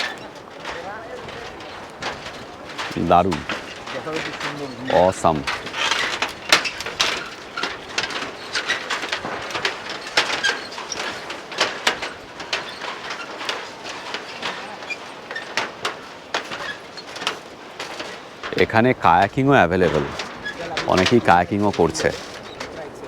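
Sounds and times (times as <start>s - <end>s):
footbridge deck rattling: 0.0s - 23.0s.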